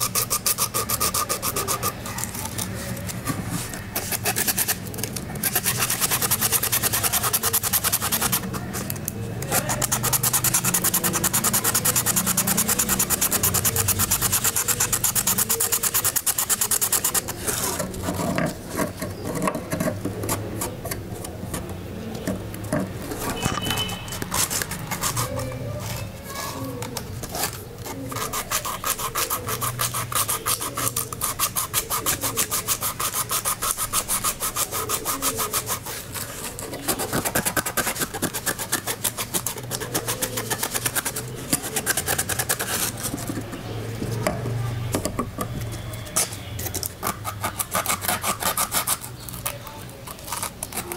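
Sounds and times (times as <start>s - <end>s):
sandpaper scrubbing rusted steel: 0.0s - 19.0s, 24.0s - 43.5s, 46.7s - 49.5s.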